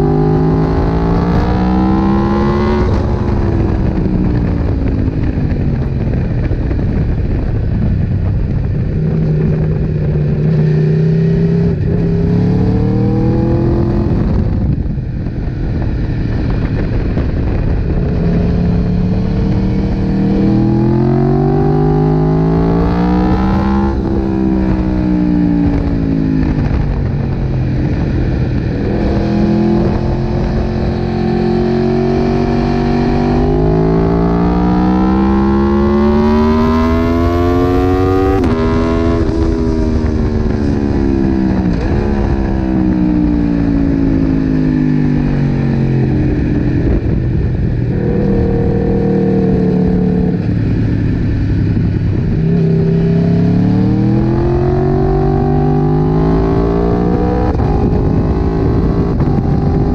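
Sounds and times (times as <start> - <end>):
racing motorcycle engine: 0.0 - 59.9
wind rushing over microphone: 0.0 - 59.9.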